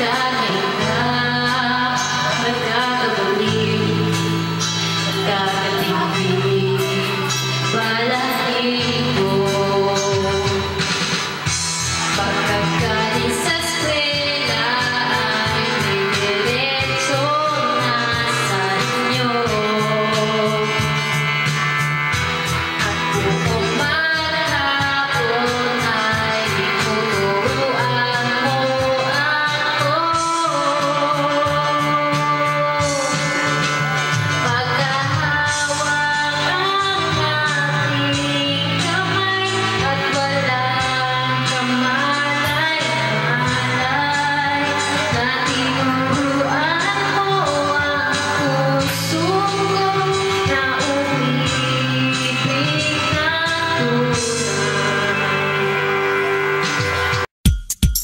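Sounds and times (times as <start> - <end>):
girl singing into microphone: 0.0 - 21.4, 22.6 - 55.6
backing music with bass notes: 0.0 - 58.0.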